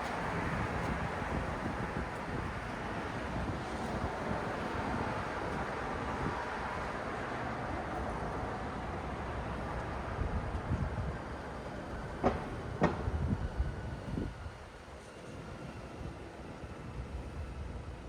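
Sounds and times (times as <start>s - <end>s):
hiss of passing vehicles: 0.0s - 18.0s.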